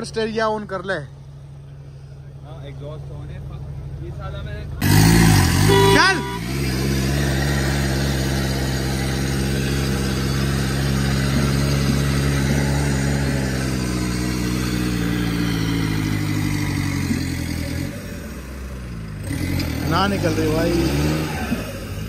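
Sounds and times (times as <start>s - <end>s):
vehicle engine straining: 0.0s - 22.0s.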